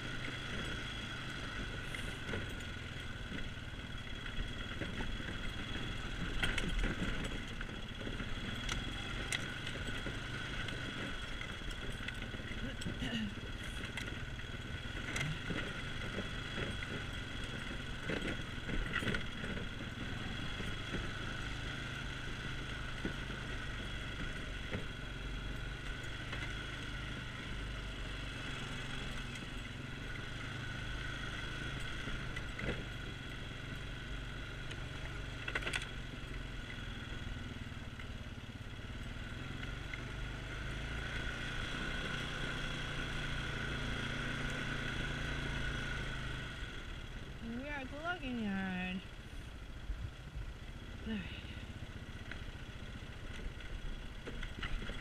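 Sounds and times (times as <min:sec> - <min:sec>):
knocks and rattles over bumps: 0:00.0 - 0:48.8, 0:52.1 - 0:55.0
atv engine running: 0:00.0 - 0:55.0.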